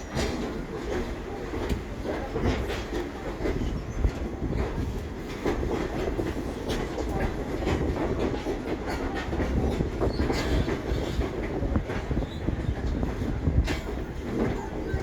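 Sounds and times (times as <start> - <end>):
railroad car rumbling on track: 0.0 - 15.0.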